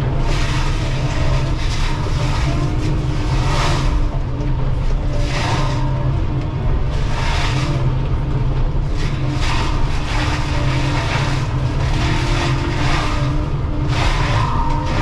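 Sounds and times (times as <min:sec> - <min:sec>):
excavator engine and hydraulics: 0:00.0 - 0:15.0
mulcher shredding brush and wood: 0:00.0 - 0:15.0.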